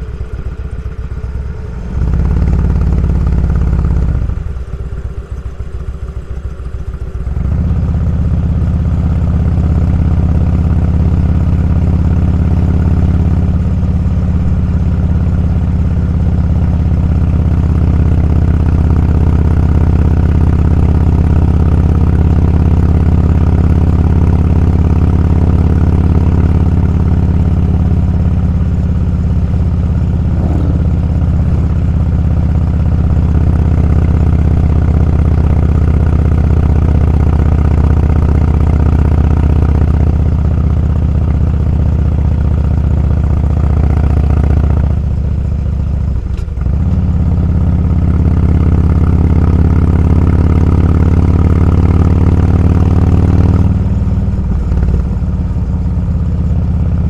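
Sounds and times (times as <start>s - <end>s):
motorcycle engine rumbling: 0.0s - 43.8s, 44.7s - 57.0s.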